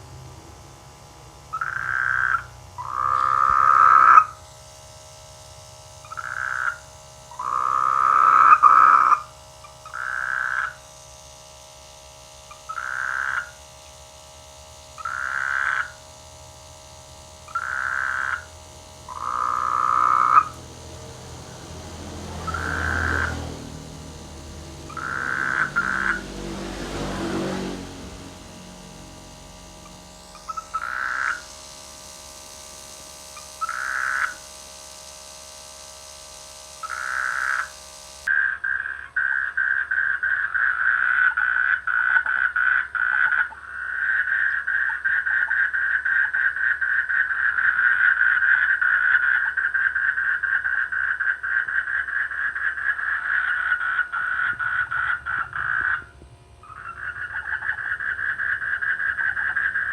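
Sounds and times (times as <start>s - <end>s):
frogs croaking: 1.5s - 4.4s, 6.0s - 10.9s, 12.4s - 13.7s, 14.9s - 16.1s, 17.4s - 35.0s, 36.6s - 59.9s.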